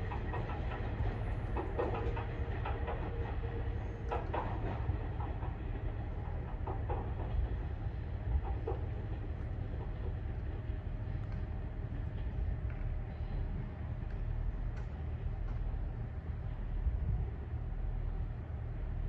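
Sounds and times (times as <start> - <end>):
distant train rumbling: 0.0 - 19.0
faint clanks from rails: 0.0 - 19.0.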